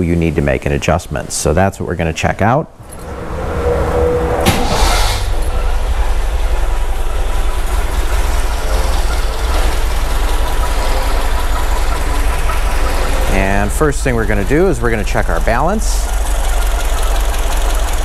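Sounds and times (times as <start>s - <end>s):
car engine cranking and idling: 0.0s - 18.0s.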